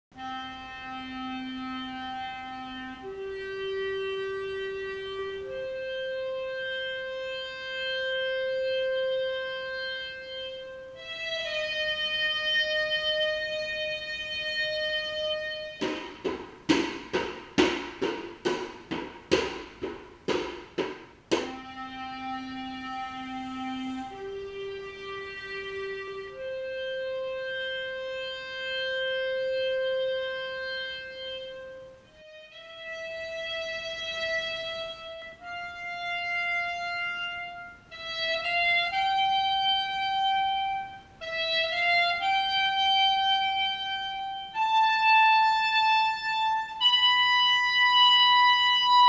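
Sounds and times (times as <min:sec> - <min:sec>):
solo clarinet melody: 0:00.1 - 0:18.7, 0:21.3 - 0:49.0.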